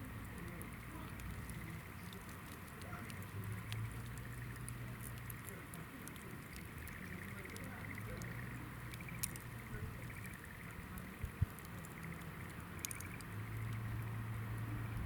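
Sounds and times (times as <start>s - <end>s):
firewood crackling in campfire: 0.0s - 15.0s
low steady hum: 0.0s - 15.0s.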